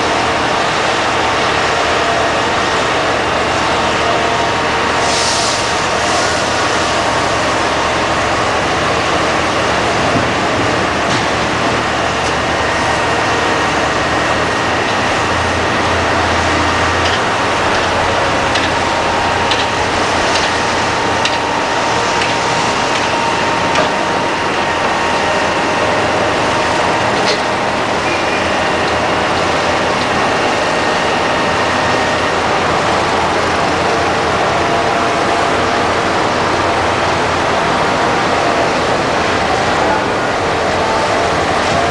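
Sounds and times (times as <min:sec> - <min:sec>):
excavator diesel engines running: 0:00.0 - 0:41.9.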